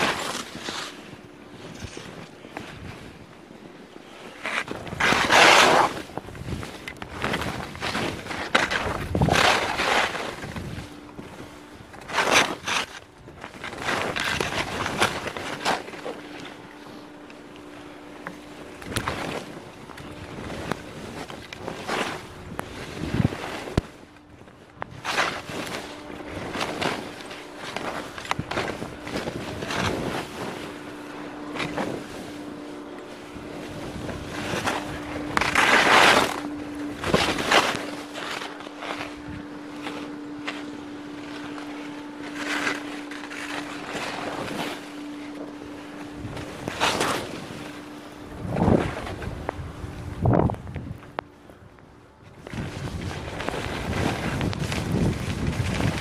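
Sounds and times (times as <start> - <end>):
skis scraping across snow: 0.0 - 51.3, 52.2 - 56.0.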